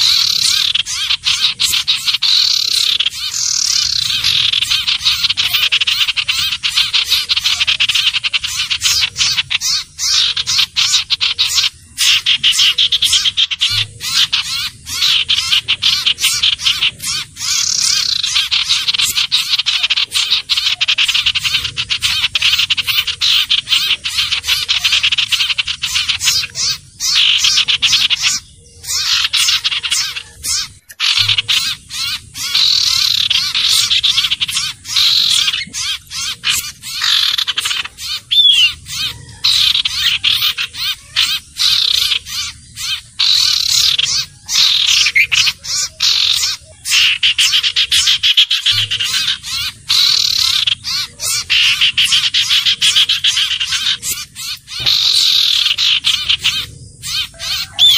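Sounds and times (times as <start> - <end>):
bird chattering trills: 0.0 - 57.9.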